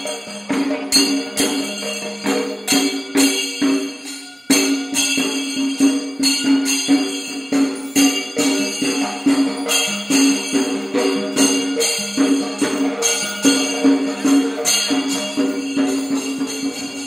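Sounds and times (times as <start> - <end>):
cymbal clashes: 0.0 - 17.0
sharp drum strokes: 0.0 - 17.0
wind instrument melody: 0.0 - 17.0.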